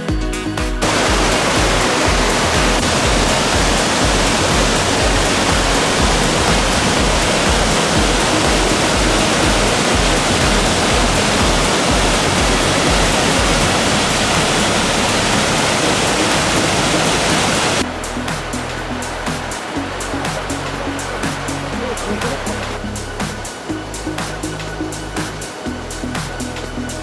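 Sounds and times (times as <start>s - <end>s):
background music: 0.0s - 27.0s
rush of falling water: 0.8s - 27.0s.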